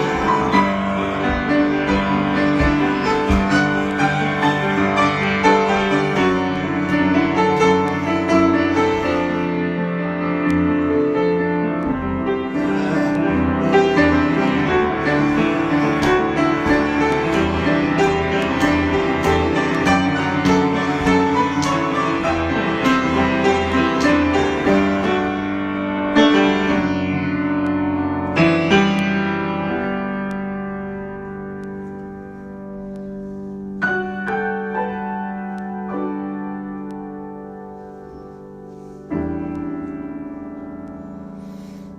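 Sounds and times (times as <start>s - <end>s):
solo piano improvisation: 0.0s - 41.9s.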